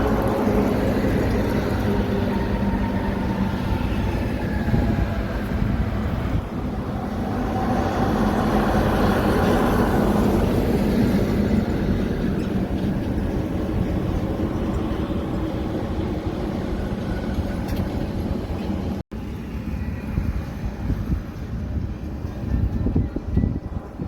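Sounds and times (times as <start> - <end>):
heavy truck engine drone: 0.0 - 24.0
road rumble: 0.0 - 24.0.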